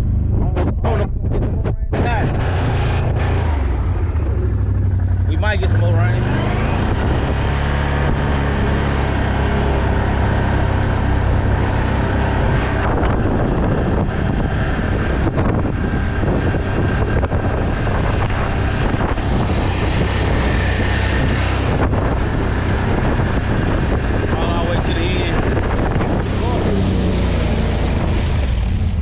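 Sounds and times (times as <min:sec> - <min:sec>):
atv engine running: 0:00.0 - 0:29.0
wind buffeting microphone: 0:00.0 - 0:29.0.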